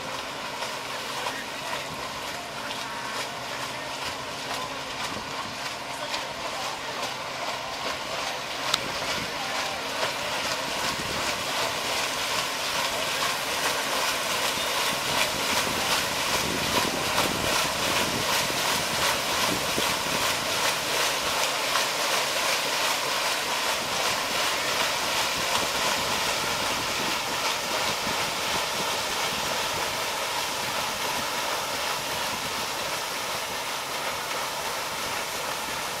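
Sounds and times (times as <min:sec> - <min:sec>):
paddle wheels rhythmic beat: 0:00.0 - 0:36.0
water churning: 0:00.0 - 0:36.0.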